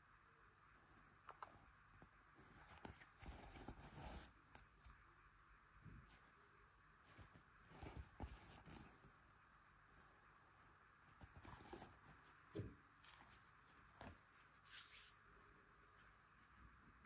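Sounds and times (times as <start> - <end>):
cloth rustling: 0.8 - 5.1, 5.9 - 15.3.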